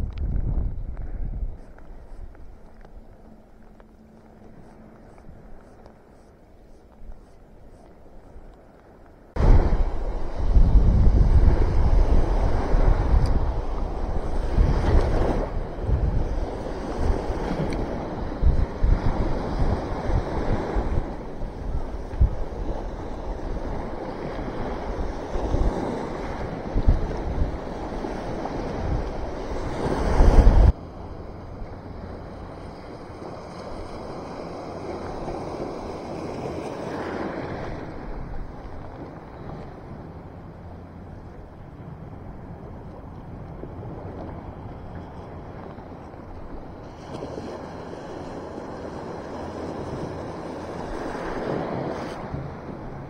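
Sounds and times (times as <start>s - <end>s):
wind buffeting microphone: 0.0s - 53.0s
waves breaking on beach: 0.9s - 53.0s.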